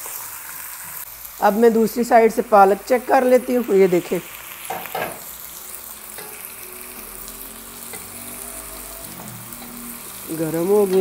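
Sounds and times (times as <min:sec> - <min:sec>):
food sizzling on stovetop: 0:00.0 - 0:11.0
spinach being stirred in pot: 0:01.8 - 0:11.0.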